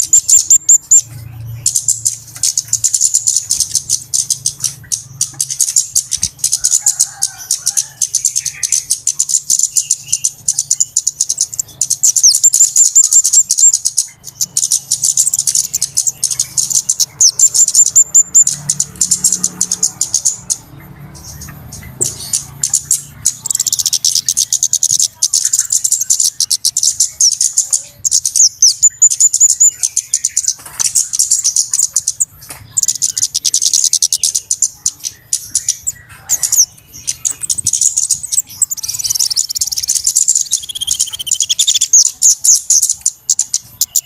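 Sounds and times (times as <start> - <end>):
birds chipping and trilling: 0.0 - 44.0.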